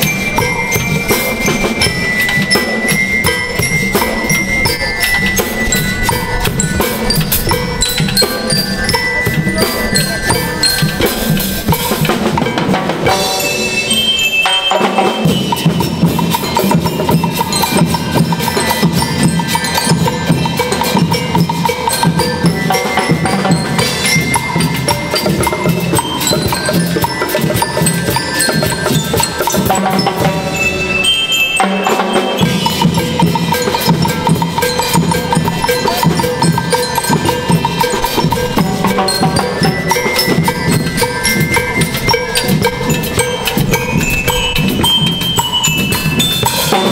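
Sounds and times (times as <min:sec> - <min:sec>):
snare and tom drums: 0:00.0 - 0:30.9, 0:31.6 - 0:46.9
bell lyres playing melody: 0:00.0 - 0:46.9
drum kit: 0:00.0 - 0:46.9.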